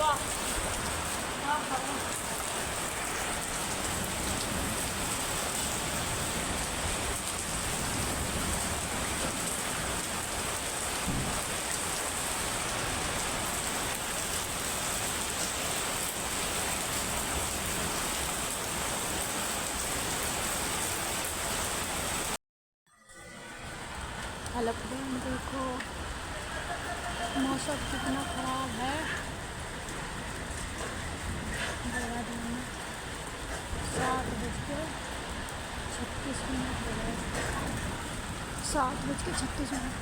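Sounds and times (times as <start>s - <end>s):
heavy rain falling: 0.0s - 22.4s, 23.4s - 40.0s.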